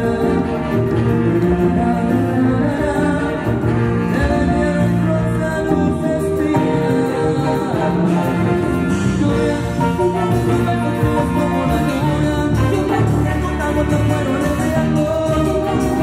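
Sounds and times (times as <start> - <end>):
drums bass and guitar: 0.0 - 16.0
horn section: 0.0 - 16.0
person singing: 0.0 - 16.0.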